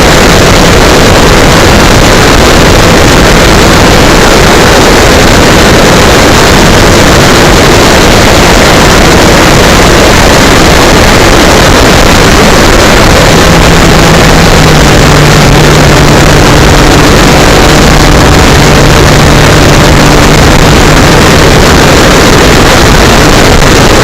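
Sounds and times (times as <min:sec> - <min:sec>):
electric propeller noise: 0:00.0 - 0:24.0
rushing airflow: 0:00.0 - 0:24.0.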